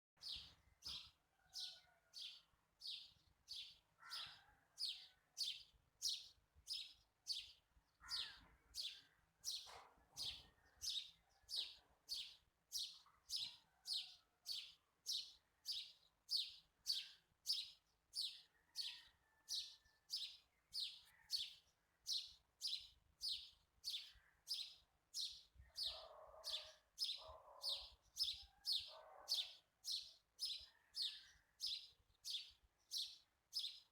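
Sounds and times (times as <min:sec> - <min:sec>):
bird chirping: 0:00.2 - 0:19.0, 0:19.6 - 0:33.9.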